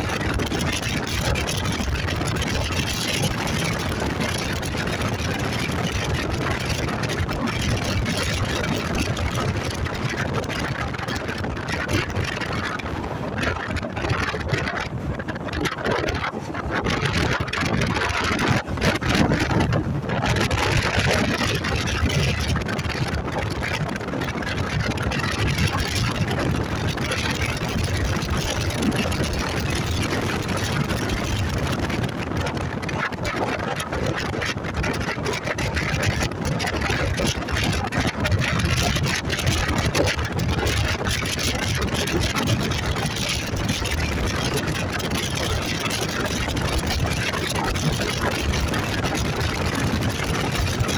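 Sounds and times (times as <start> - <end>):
wind and road noise: 0.0 - 50.9.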